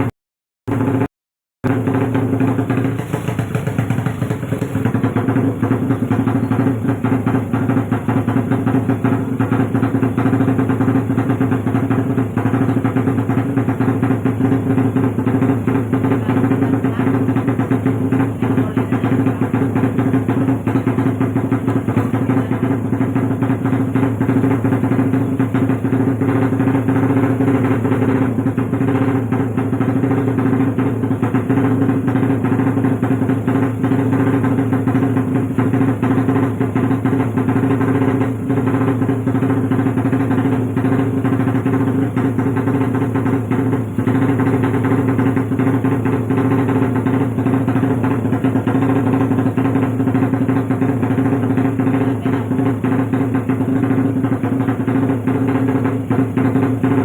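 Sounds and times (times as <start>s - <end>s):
motorcycle engine idling fast: 0.7s - 57.0s.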